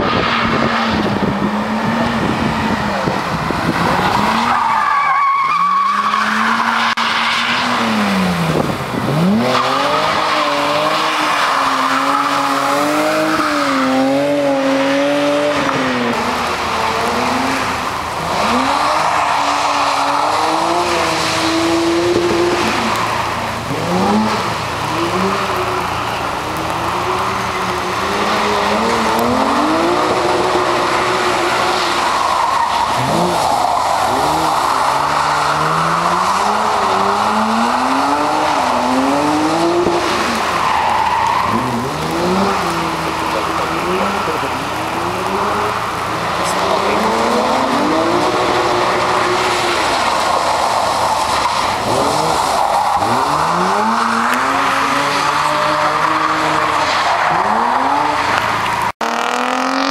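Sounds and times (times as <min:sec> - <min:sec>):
tyres squealing on asphalt: 0:00.0 - 0:59.9
car engine revving hard: 0:06.0 - 0:26.0, 0:26.6 - 0:32.2, 0:32.8 - 0:50.2, 0:51.0 - 0:59.9.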